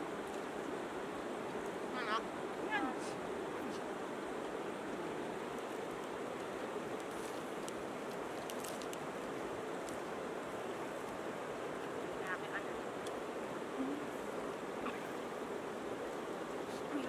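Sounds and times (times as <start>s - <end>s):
river flowing over stones: 0.0s - 17.0s.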